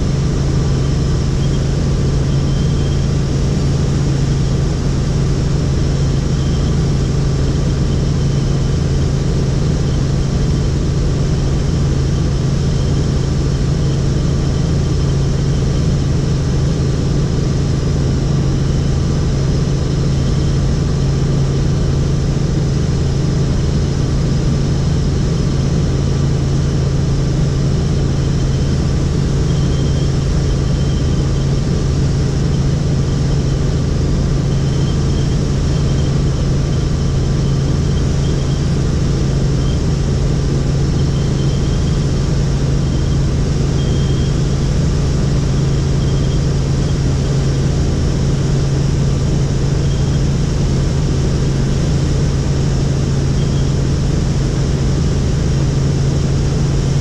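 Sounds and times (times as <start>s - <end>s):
helicopter rotor drone: 0.0s - 57.0s.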